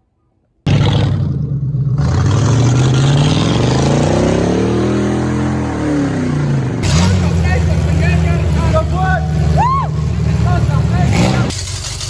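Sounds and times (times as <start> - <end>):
car engine revving: 0.7 - 12.0.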